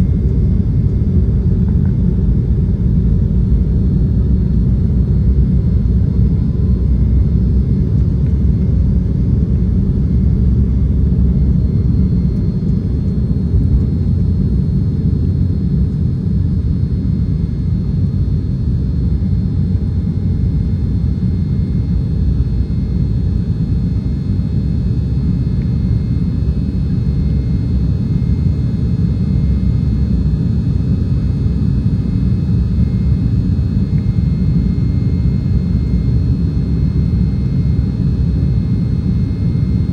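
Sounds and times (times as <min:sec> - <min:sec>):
airliner cabin rumble: 0:00.0 - 0:39.9
faint jet engine whine: 0:00.0 - 0:39.9.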